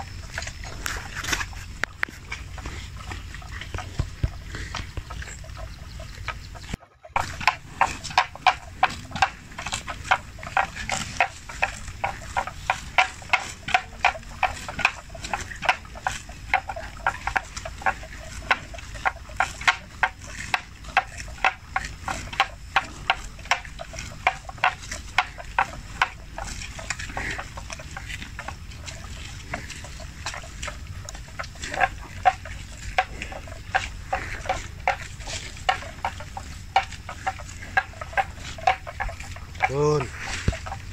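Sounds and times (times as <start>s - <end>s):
water buffalo tearing grass: 0.0s - 40.9s.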